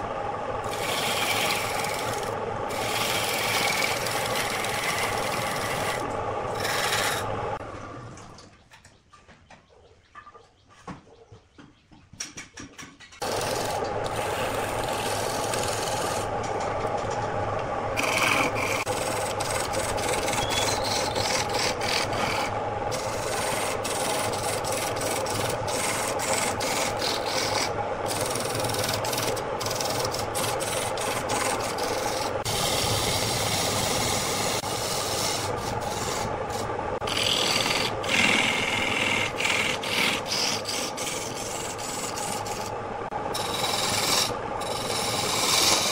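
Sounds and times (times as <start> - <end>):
lathe motor hum: 0.0 - 7.7, 13.2 - 45.9
lathe tool scraping wood: 0.6 - 7.6, 13.2 - 17.0, 17.9 - 45.9.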